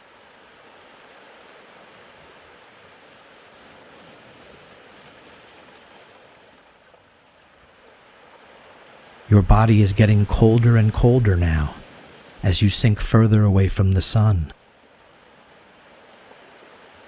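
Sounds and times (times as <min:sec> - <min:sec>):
faint ocean waves: 0:00.0 - 0:17.0.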